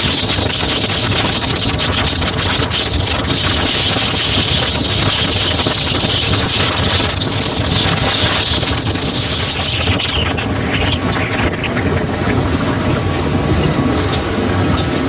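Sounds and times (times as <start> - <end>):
motorcycle engine running: 0.0 - 14.4
rushing air noise: 0.0 - 15.0.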